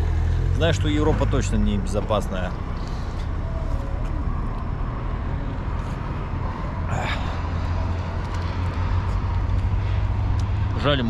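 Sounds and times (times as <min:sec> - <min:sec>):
road rumble: 0:00.0 - 0:11.0.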